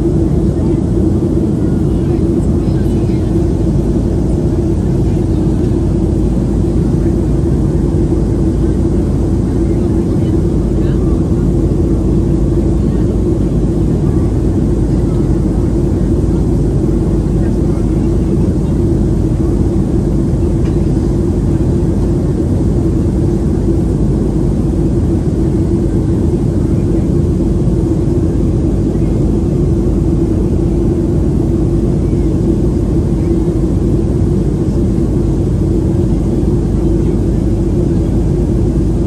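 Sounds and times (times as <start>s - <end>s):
airliner cabin engine drone: 0.0s - 39.0s
low hum: 0.0s - 39.0s.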